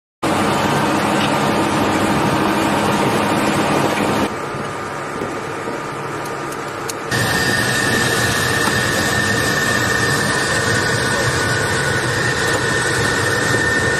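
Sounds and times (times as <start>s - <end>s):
engine drone: 0.2s - 13.9s
wide rushing noise: 0.2s - 13.9s.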